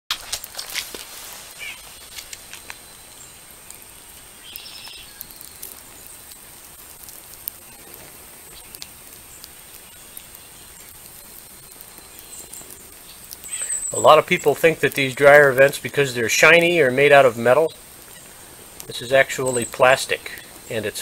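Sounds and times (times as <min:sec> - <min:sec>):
fire crackling and ticking: 0:00.1 - 0:21.0
steady hiss of burning duct: 0:00.2 - 0:21.0.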